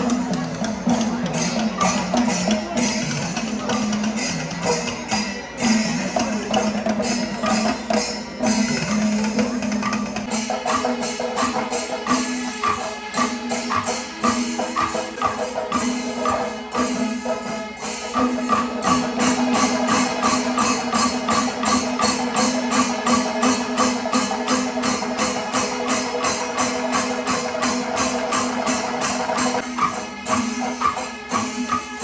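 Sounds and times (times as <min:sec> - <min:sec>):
drums playing fast rhythm: 0:00.0 - 0:32.0
small hand cymbals: 0:00.0 - 0:32.0.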